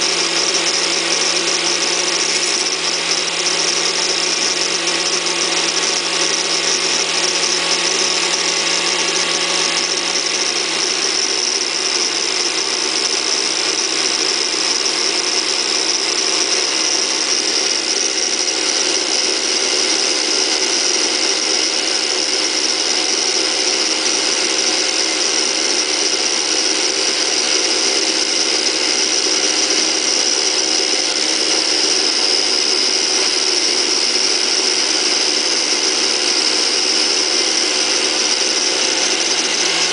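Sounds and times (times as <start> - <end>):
angle grinder whine: 0.0 - 39.9.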